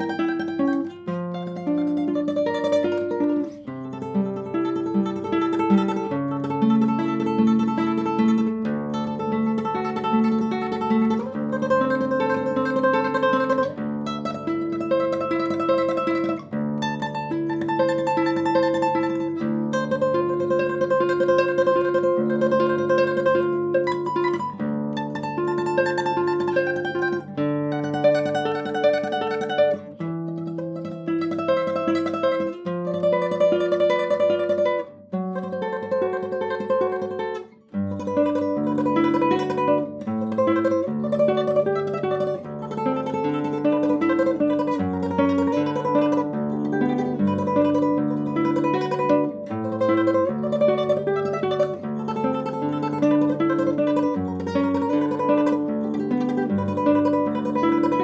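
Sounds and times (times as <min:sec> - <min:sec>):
classical guitar tremolo melody: 0:00.0 - 0:58.0.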